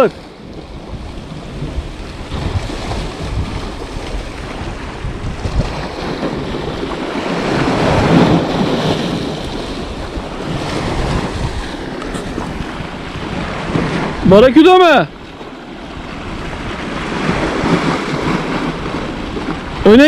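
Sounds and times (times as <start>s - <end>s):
sea waves breaking against rocks: 0.0s - 20.0s
wind on microphone: 0.0s - 20.0s.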